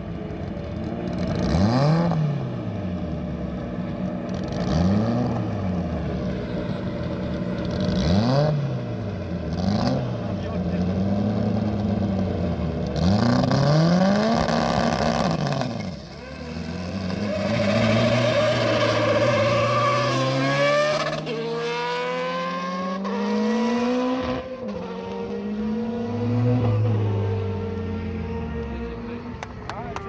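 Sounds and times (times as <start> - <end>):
racing engine revving and accelerating: 0.4 - 29.5.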